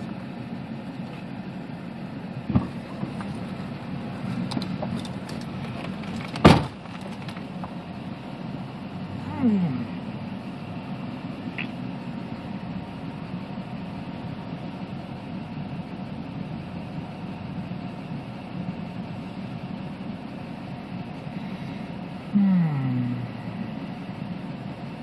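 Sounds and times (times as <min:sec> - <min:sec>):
car engine rumble and hiss: 0:00.0 - 0:25.0.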